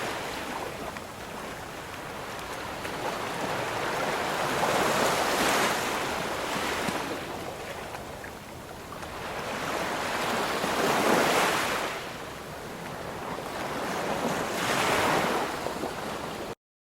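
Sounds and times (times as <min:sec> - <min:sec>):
ocean waves breaking: 0:00.0 - 0:16.6.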